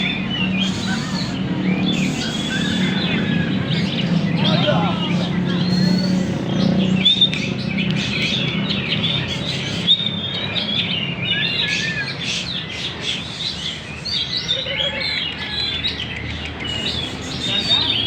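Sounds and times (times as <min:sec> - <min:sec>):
songbirds chirping and whistling: 0:00.0 - 0:18.0.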